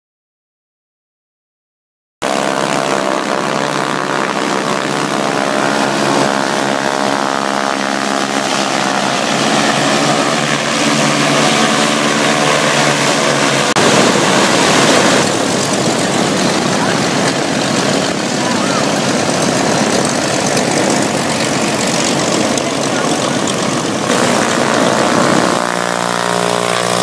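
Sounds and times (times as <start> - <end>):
light plane engine drone: 2.2 - 27.0
propeller plane taxiing close by: 2.2 - 27.0.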